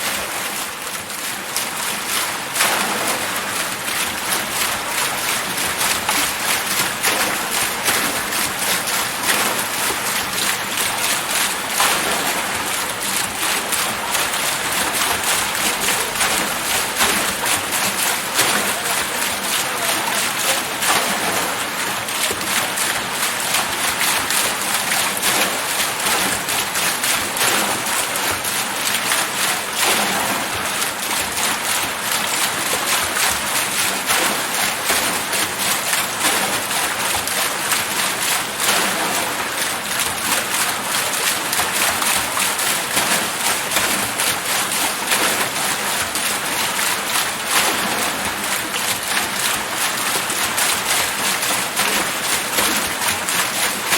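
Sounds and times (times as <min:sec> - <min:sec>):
water wheel splashing: 0:00.0 - 0:53.9.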